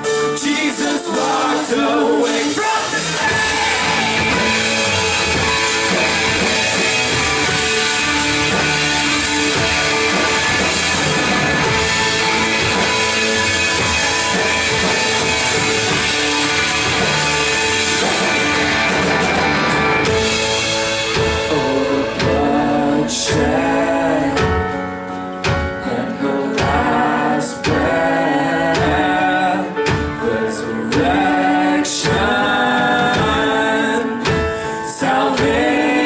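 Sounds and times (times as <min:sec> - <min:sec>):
drum kit: 0:00.0 - 0:36.0
guitar: 0:00.0 - 0:36.0.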